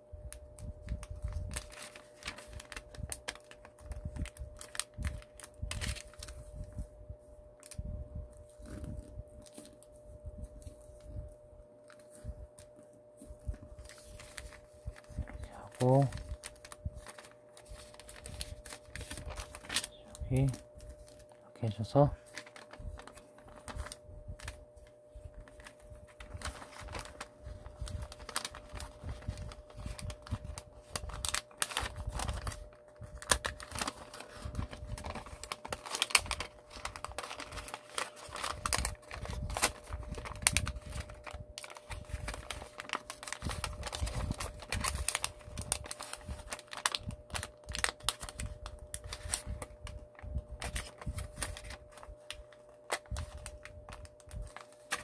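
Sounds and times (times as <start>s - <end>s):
paper being folded: 0.6s - 6.8s, 11.9s - 55.0s.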